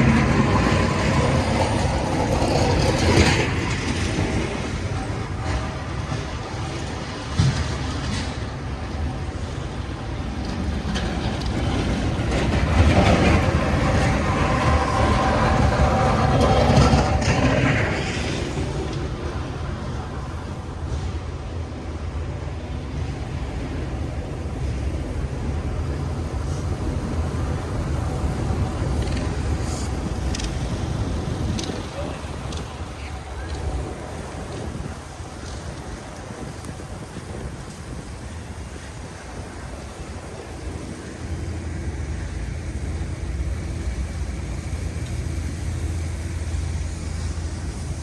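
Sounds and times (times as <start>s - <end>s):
city street traffic rumble: 0.0s - 48.0s
wind buffeting microphone: 0.0s - 48.0s.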